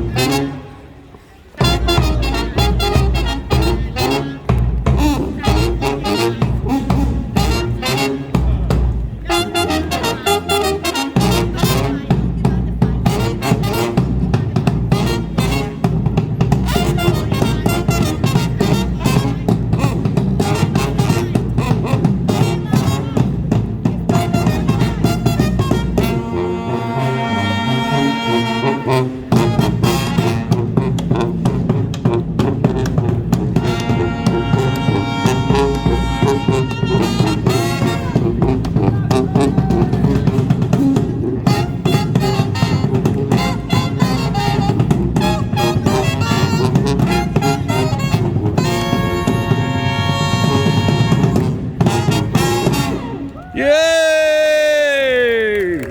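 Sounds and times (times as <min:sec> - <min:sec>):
held horn chords: 0:00.0 - 0:53.4
brass street band playing: 0:00.0 - 0:54.5
drums hitting steadily: 0:01.6 - 0:09.3, 0:11.2 - 0:26.4, 0:28.9 - 0:54.2.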